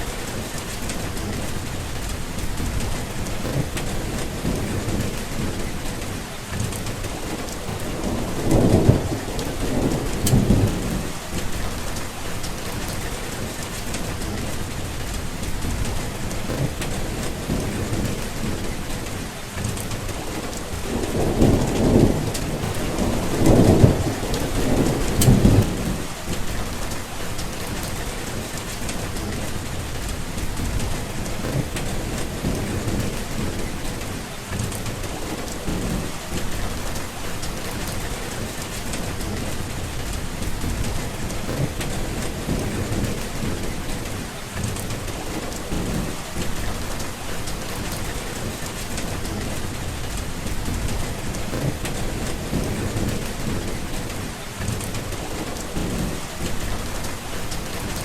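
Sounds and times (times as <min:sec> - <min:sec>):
rolling thunder rumbling: 0:00.0 - 0:58.0
steady rain falling: 0:00.0 - 0:58.0.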